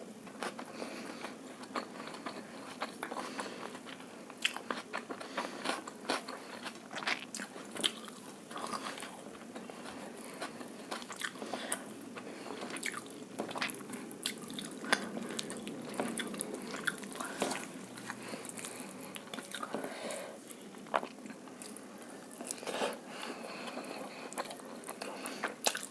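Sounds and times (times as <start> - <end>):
chewing and crunching food: 0.2 - 25.9.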